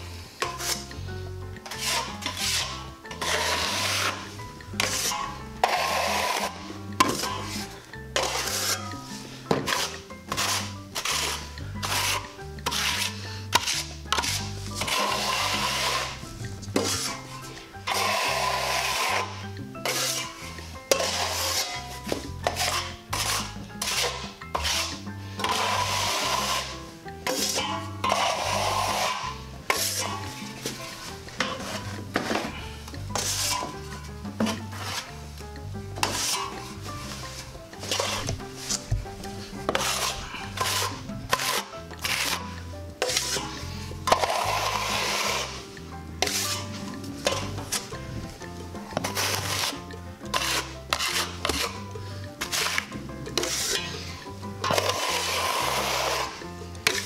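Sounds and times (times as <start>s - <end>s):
background music with bass: 0.0s - 57.0s
taping knife scraping compound: 0.0s - 57.0s.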